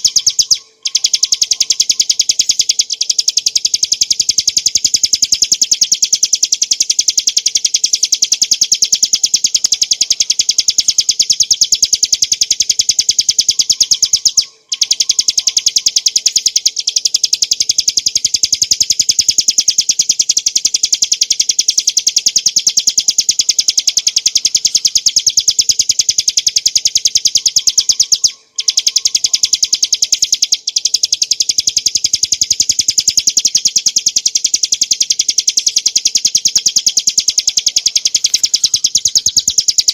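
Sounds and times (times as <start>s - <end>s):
small bird trilling: 0.0s - 39.9s.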